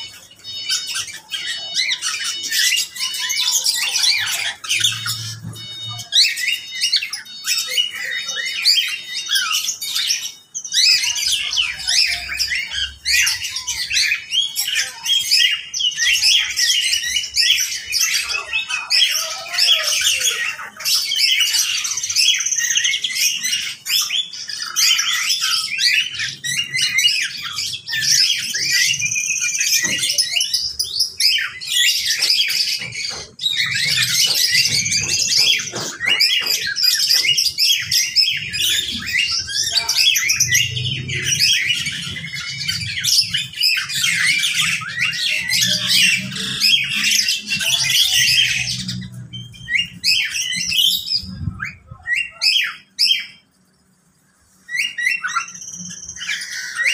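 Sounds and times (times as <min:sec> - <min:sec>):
birds chirping and squawking: 0:00.0 - 0:56.9.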